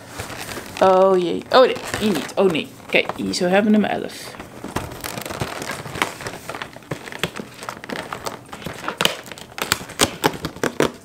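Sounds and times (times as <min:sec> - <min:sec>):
cardboard and plastic crinkling: 0:00.0 - 0:11.0.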